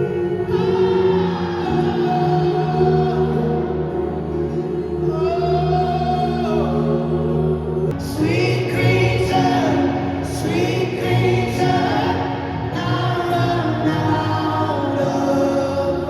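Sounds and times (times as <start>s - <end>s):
group of voices singing: 0.0s - 16.0s
sustained accompaniment: 0.0s - 16.0s.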